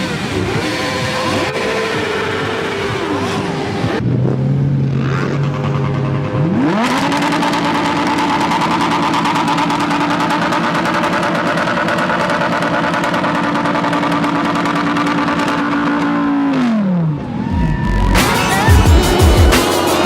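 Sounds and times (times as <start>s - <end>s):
engine revving to high note: 0.0s - 20.0s
motorcycle engines revving: 0.0s - 20.0s.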